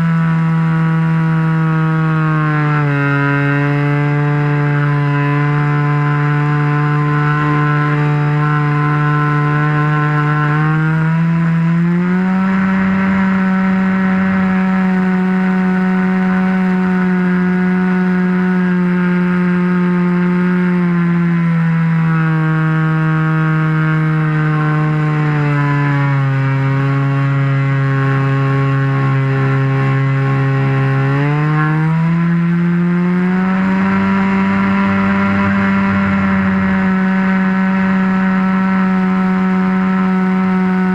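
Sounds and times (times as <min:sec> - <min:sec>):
model airplane engine and propeller: 0:00.0 - 0:40.9.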